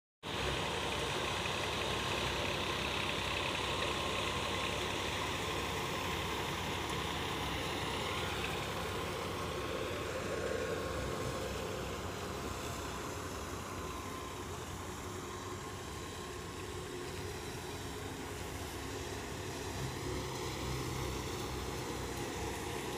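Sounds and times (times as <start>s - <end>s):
tractor engine and thresher running: 0.2s - 22.9s.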